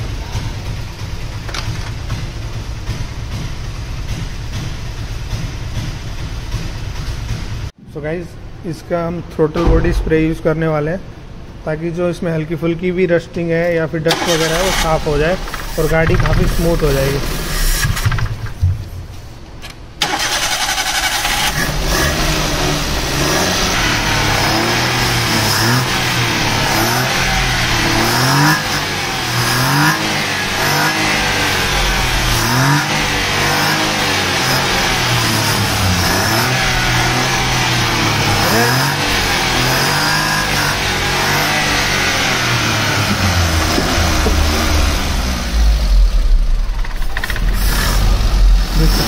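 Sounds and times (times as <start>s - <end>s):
car engine revving: 0.0s - 7.8s, 14.1s - 18.6s, 19.8s - 49.0s.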